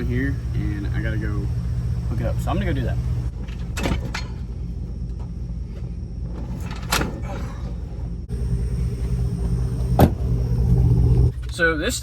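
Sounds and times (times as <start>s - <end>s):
vehicle idling with low hum: 0.0s - 12.0s.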